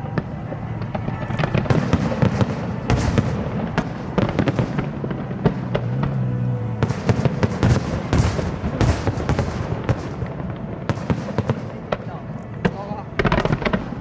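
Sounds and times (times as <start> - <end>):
fireworks cracking and popping: 0.0 - 14.0.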